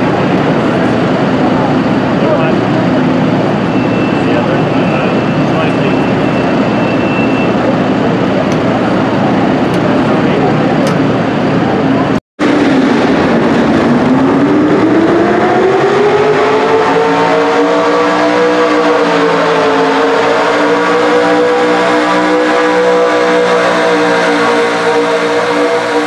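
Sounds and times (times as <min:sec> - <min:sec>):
truck engine at full throttle: 0:00.0 - 0:26.0.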